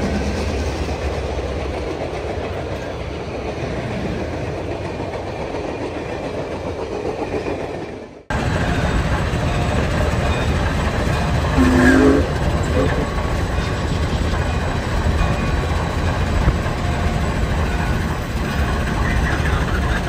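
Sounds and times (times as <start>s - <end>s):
train rumbling by: 0.0s - 20.0s.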